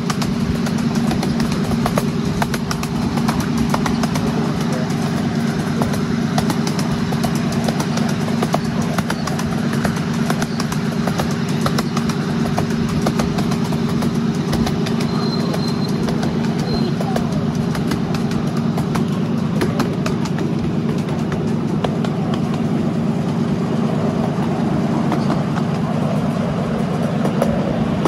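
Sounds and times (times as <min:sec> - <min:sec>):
small train engine running: 0:00.0 - 0:28.0
wheels clicking on track: 0:00.0 - 0:28.0.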